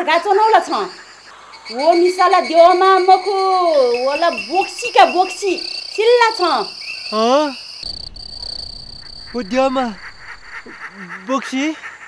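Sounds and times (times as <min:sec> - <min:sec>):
high insect drone: 0:00.1 - 0:11.6.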